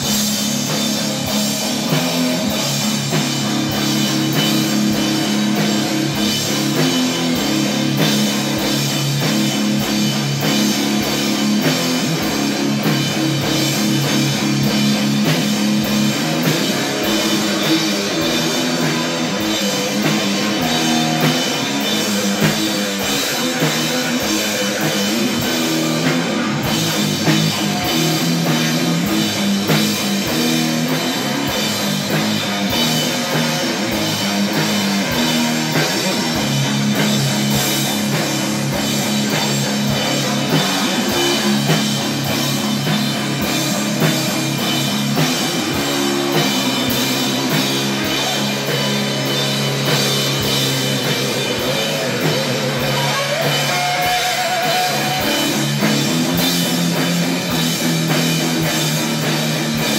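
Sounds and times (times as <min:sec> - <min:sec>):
rock drum beat: 0:00.0 - 0:59.9
strummed electric guitar: 0:00.0 - 0:59.9.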